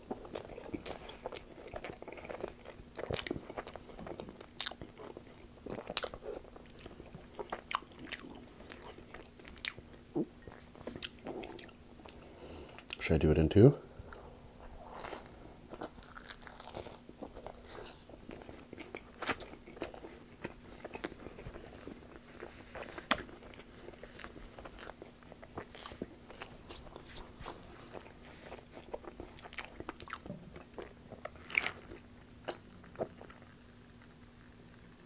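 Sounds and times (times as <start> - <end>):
person chewing pizza: 0.0 - 13.0, 14.0 - 34.6.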